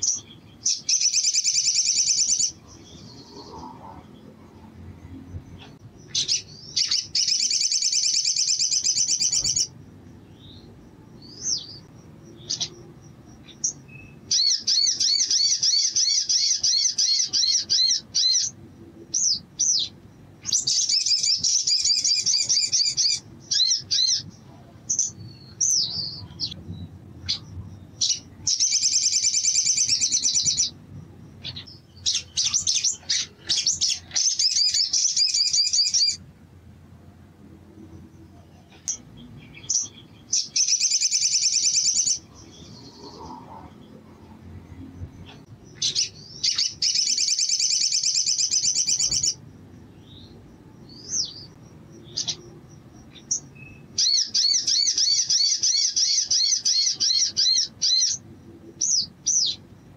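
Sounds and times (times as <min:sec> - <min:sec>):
sharp bird chirps: 0:00.0 - 0:36.2, 0:38.1 - 0:44.0, 0:44.7 - 0:58.2, 0:58.8 - 0:59.9
bird trilling song: 0:00.0 - 0:36.3, 0:38.0 - 0:59.9.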